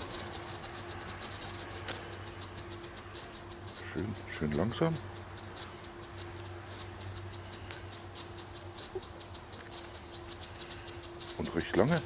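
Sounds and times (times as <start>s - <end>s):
strobe firework crackling pops: 0.0s - 12.0s.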